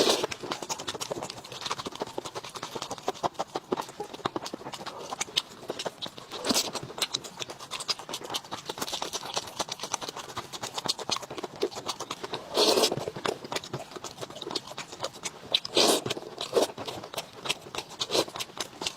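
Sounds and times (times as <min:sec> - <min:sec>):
chewing and crunching food: 0:00.0 - 0:18.9.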